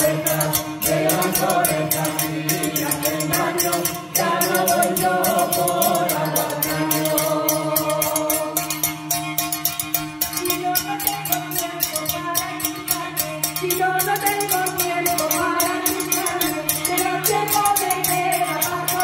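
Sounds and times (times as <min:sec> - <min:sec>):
pan and bottle struck rhythmically: 0:00.0 - 0:19.0
rattles: 0:00.0 - 0:19.0
wavering melody: 0:00.0 - 0:19.0.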